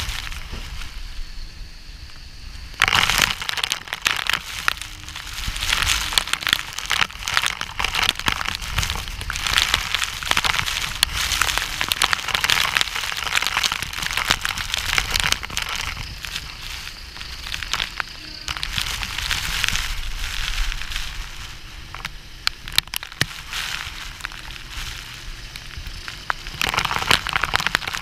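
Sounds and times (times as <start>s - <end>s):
heavy rain on microphone: 0.0s - 28.0s
low wind rumble: 0.0s - 28.0s.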